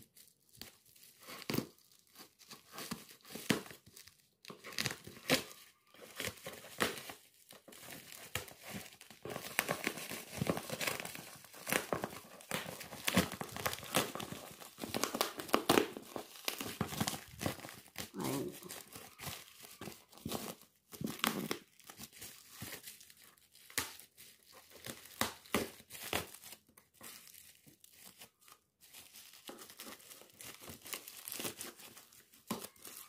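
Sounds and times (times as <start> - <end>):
plastic packaging tearing: 0.0 - 33.0.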